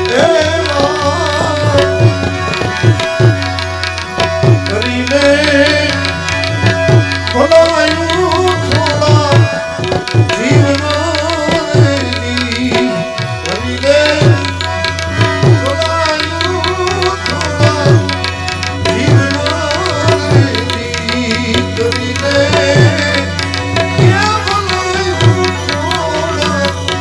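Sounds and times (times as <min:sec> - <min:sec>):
harmonium melody: 0:00.0 - 0:27.0
tabla drumming: 0:00.0 - 0:27.0.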